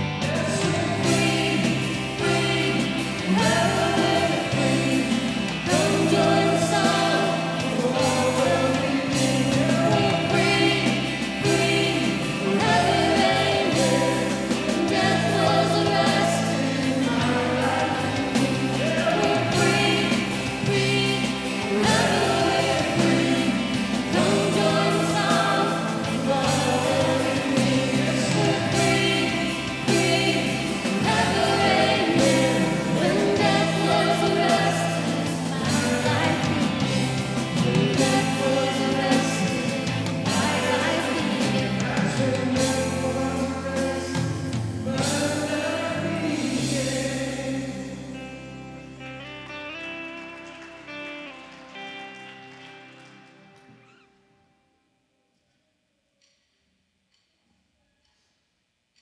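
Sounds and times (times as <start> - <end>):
congregation singing: 0.0 - 53.9
band playing worship music: 0.0 - 54.0.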